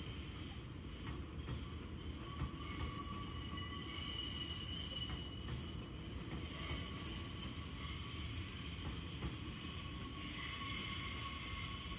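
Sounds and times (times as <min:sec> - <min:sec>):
low train engine rumble: 0:00.0 - 0:11.9.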